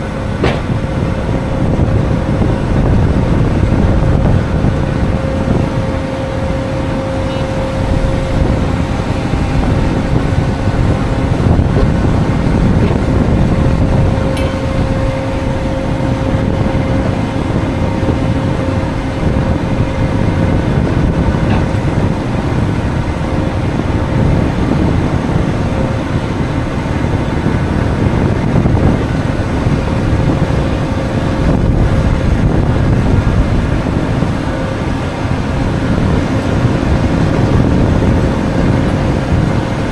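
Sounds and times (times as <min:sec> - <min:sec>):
faint constant hum: 0:00.0 - 0:39.9
heavy truck engine rumble: 0:00.0 - 0:39.9.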